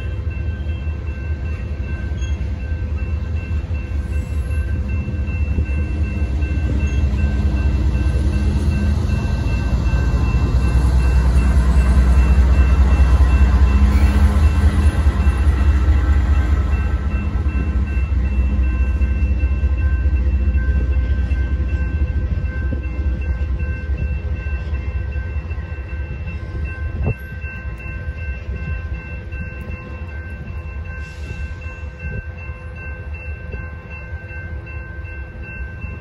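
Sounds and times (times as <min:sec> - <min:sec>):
crossing signal bells ringing: 0:00.0 - 0:36.0
diesel locomotive engine rumble: 0:00.0 - 0:36.0.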